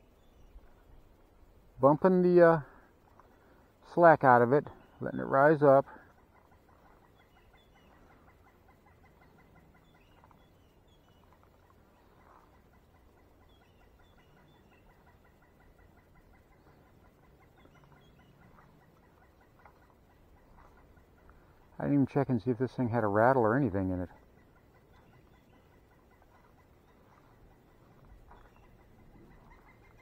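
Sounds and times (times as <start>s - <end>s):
faint high bird chirps: 0.0s - 2.2s, 4.4s - 30.0s.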